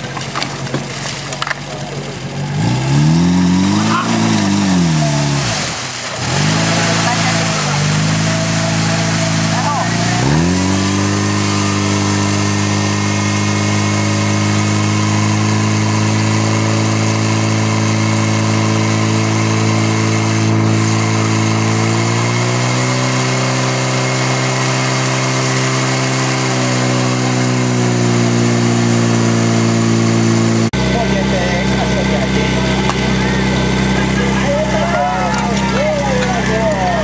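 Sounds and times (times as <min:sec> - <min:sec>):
pump engine at high revs: 0:00.0 - 0:37.0.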